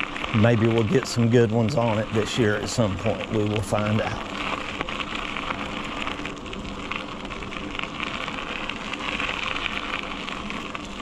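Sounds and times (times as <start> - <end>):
bicycle tyre hiss on road: 0.0 - 11.0.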